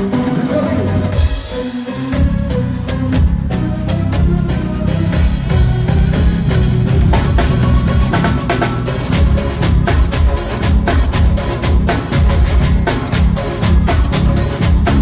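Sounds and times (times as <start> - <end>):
drum kit kick and snare: 0.0 - 15.0
live band playing: 0.0 - 15.0.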